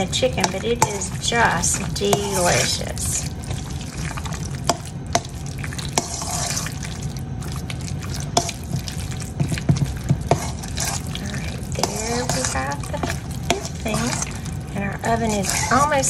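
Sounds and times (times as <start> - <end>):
spoon squishing thick mixture: 0.0 - 16.0.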